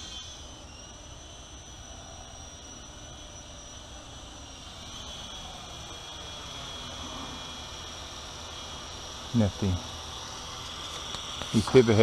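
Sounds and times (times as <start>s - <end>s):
crickets trilling: 0.0s - 12.0s
toy helicopter rotors buzzing: 0.0s - 12.0s.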